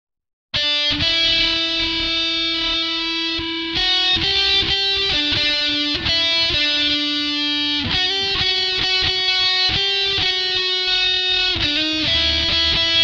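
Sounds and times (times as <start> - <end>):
electric guitar chords: 0.6 - 13.0.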